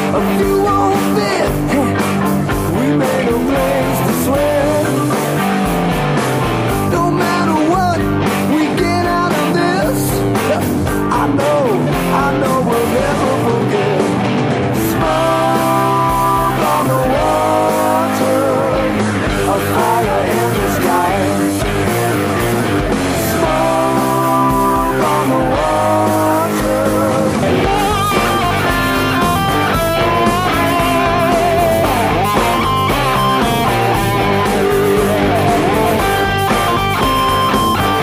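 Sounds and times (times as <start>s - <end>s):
bass and drums backing: 0.0s - 38.0s
electric guitar lead: 0.0s - 38.0s.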